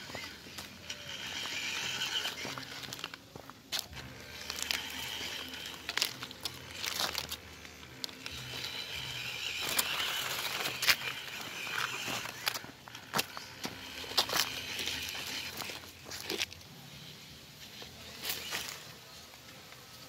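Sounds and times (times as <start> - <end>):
dry leaves and twigs crunching: 0.0 - 19.8
toy car electric motor whirring: 0.0 - 19.9.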